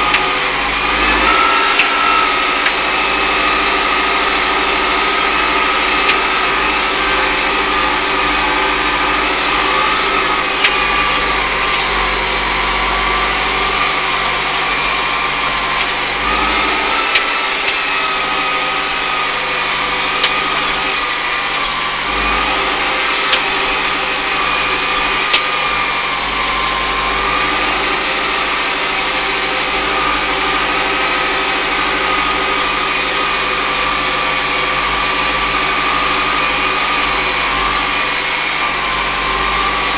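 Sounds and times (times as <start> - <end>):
high whine: 0.0 - 39.9
tractor engine running: 0.0 - 39.9.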